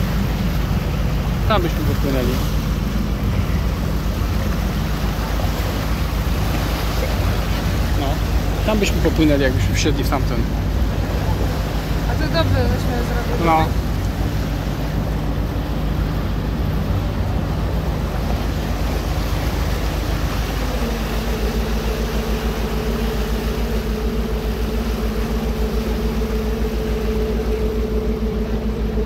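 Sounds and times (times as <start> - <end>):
churning wake rushing: 0.0 - 29.0
ferry engine pulsing drone: 0.0 - 29.0
higher steady hum: 0.0 - 29.0.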